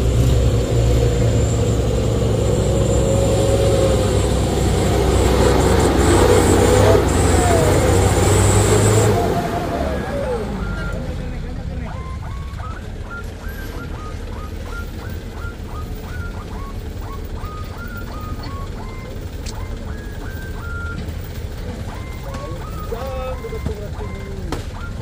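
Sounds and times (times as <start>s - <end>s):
truck engine rumbling: 0.0s - 25.0s
two-note repeating chirp: 3.5s - 25.0s.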